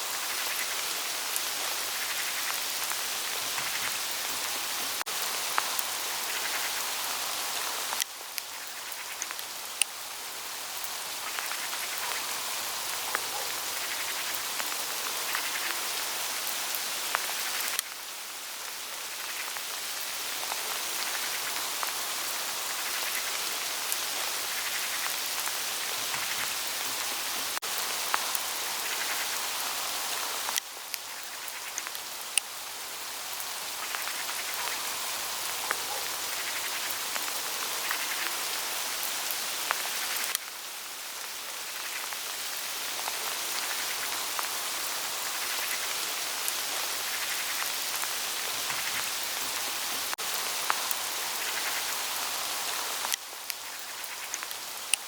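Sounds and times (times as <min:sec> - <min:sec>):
hail falling on leaves: 0:00.0 - 0:55.0.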